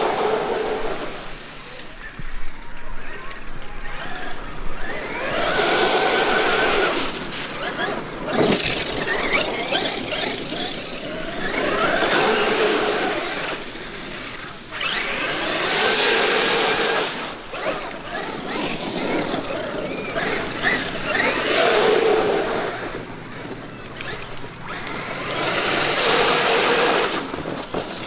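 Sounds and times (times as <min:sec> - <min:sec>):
electric motor whining: 0:00.0 - 0:02.5, 0:03.2 - 0:28.0.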